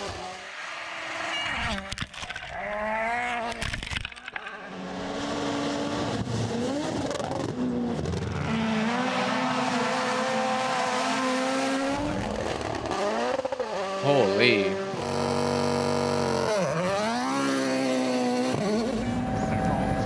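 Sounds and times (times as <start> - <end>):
rally car engines revving: 0.0 - 20.0.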